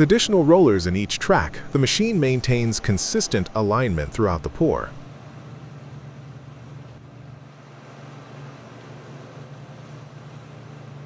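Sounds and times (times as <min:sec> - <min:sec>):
diesel engine low drone: 0:00.0 - 0:11.0.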